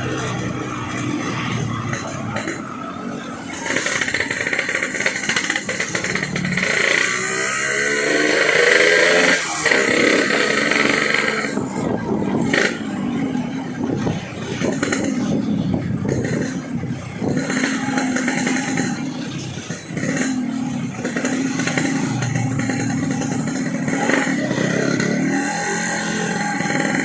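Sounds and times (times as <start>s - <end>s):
two-stroke motorcycle revving: 0.0s - 27.0s.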